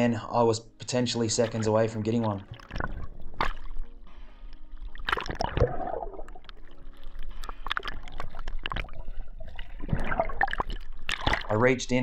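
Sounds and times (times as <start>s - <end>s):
water splashing and gurgling: 1.2s - 11.9s.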